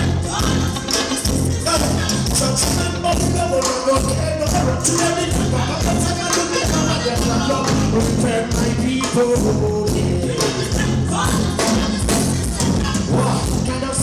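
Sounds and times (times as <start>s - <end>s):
live reggae band playing: 0.0s - 14.0s.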